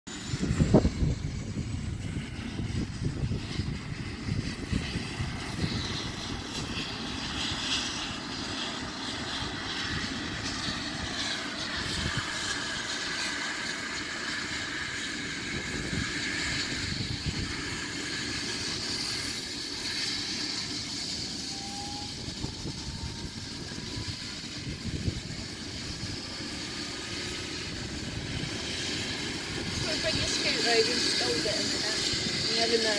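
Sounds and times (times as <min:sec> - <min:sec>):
helicopter turbine whine: 0:00.0 - 0:32.9
rotor rumble: 0:00.1 - 0:32.9.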